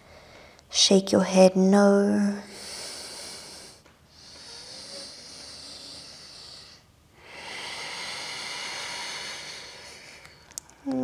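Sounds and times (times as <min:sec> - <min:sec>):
woman breathing deeply: 0:00.0 - 0:00.7, 0:02.5 - 0:10.9.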